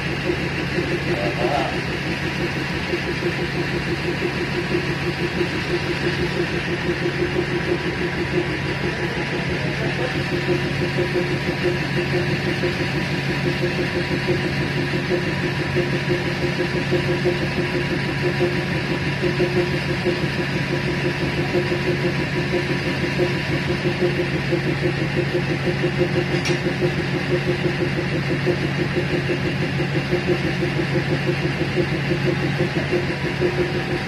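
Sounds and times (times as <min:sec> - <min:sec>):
train diesel engine running: 0:00.0 - 0:34.0.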